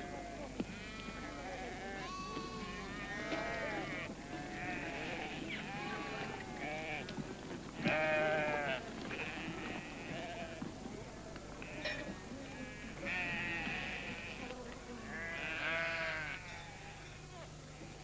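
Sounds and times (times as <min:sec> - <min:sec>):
sheep bleating: 0:00.0 - 0:07.2, 0:07.8 - 0:10.7, 0:11.6 - 0:17.1.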